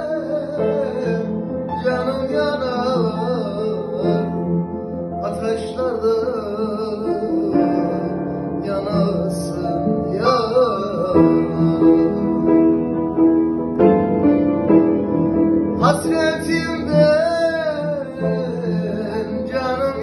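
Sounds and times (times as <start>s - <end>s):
ornamented melody line: 0.0s - 20.0s.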